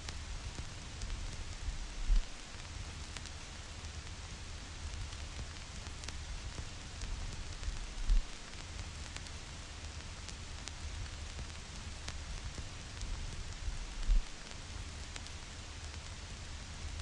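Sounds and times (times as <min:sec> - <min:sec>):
vinyl record hiss and crackle: 0:00.0 - 0:17.0.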